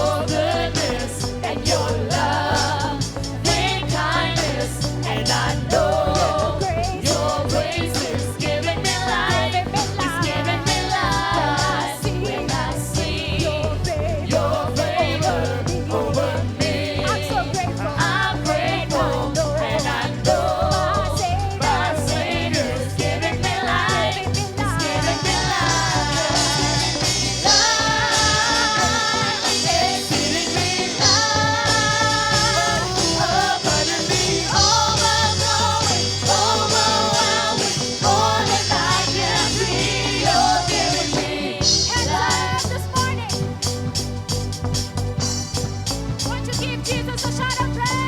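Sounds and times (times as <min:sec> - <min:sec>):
singers holding long notes: 0:00.0 - 0:43.9
band with steady bass: 0:00.0 - 0:48.0.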